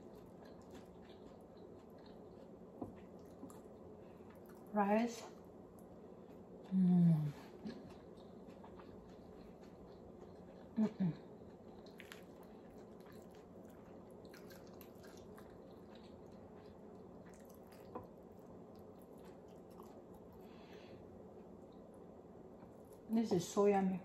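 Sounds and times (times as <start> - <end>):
soft chewing: 0.0 - 23.6.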